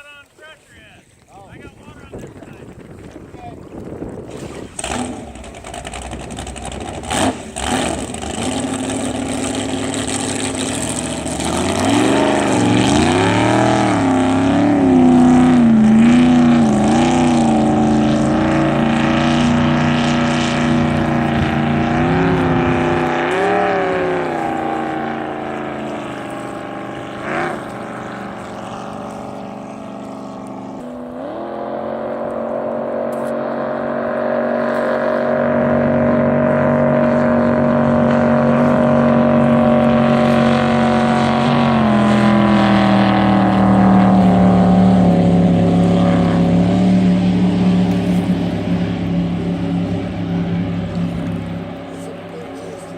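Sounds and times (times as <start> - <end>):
boat engine running and revving: 1.2 - 52.9.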